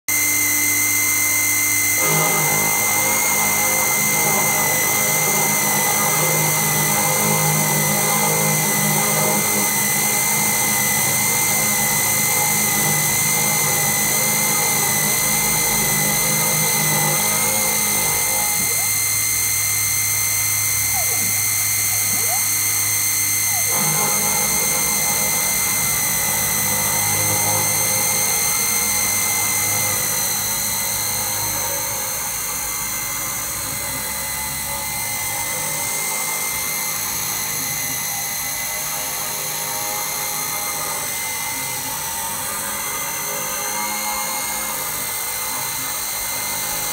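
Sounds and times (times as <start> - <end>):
lower hum: 0.1 - 46.9
router spindle whining: 0.1 - 46.9.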